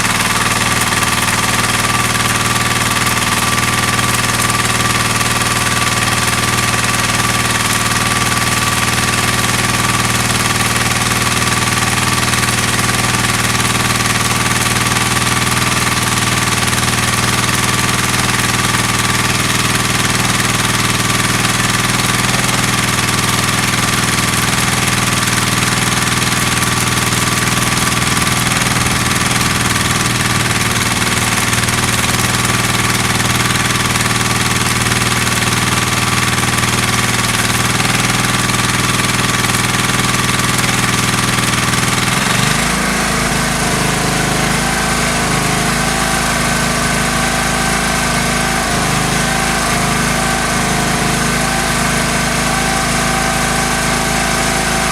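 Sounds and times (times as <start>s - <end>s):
generator engine running: 0.0s - 54.9s.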